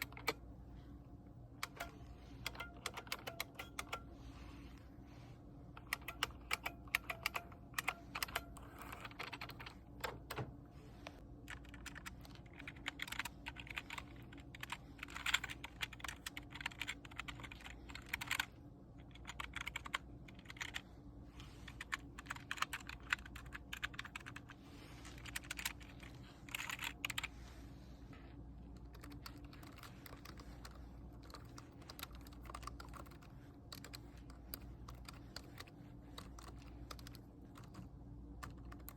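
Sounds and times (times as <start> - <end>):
computer keyboard typing: 0.0 - 0.4, 1.6 - 4.0, 5.8 - 10.4, 11.4 - 20.9, 21.7 - 24.6, 25.2 - 27.3, 28.8 - 38.9.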